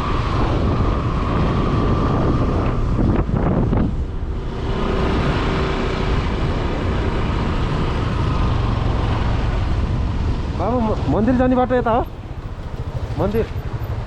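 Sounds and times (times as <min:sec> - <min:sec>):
road noise: 0:00.0 - 0:14.0
motorcycle engine running: 0:00.1 - 0:14.0.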